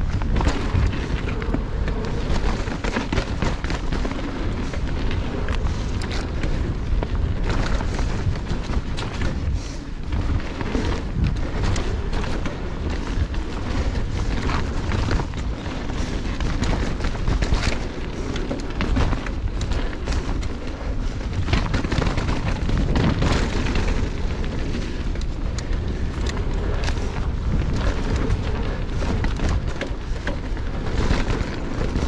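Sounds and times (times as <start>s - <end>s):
bike rattling and knocking: 0.0s - 32.0s
tyres on dirt and stones: 0.0s - 32.0s
wind buffeting microphone: 0.0s - 32.0s.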